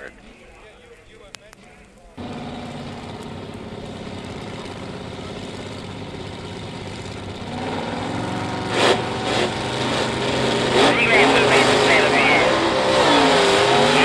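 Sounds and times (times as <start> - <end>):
car engine idling and revving: 2.2 - 14.0.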